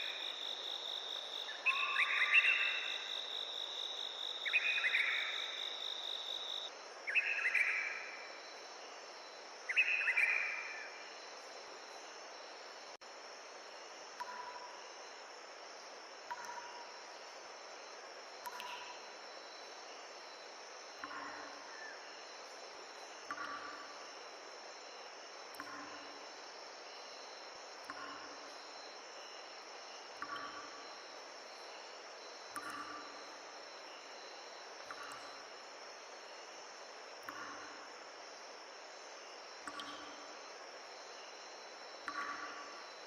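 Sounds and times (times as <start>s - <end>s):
insects trilling: 0.0s - 13.0s, 16.2s - 43.0s.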